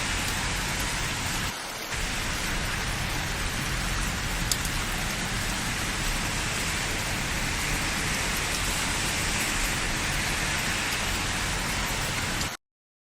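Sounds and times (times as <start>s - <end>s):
rain pattering on surfaces: 0.0s - 12.6s.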